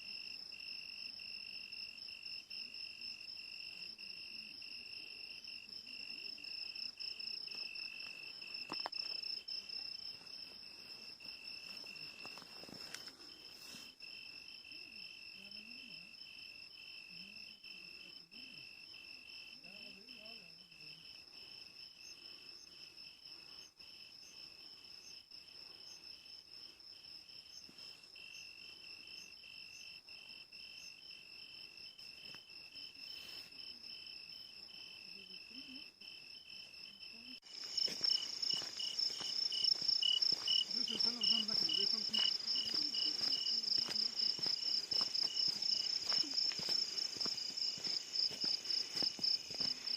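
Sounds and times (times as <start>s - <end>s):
crickets trilling: 0.1s - 49.9s.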